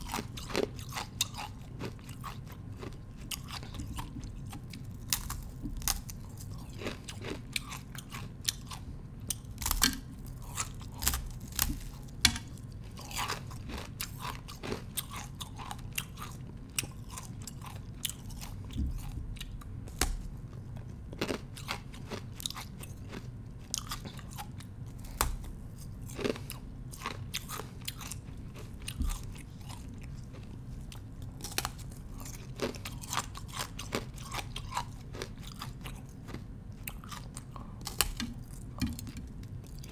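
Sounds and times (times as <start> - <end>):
ice crunching being chewed: 0.0 - 39.9
low steady hum: 0.0 - 39.9.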